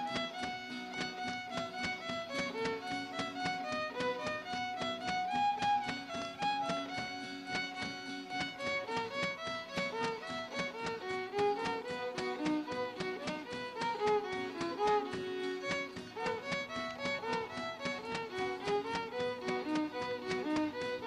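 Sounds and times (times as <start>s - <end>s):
folk band with fiddle melody: 0.0s - 21.0s.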